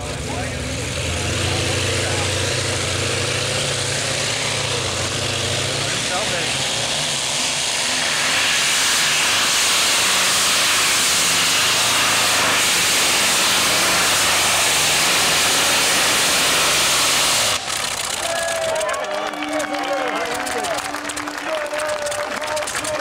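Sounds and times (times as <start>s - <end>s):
tractor engine roaring: 0.0s - 23.0s.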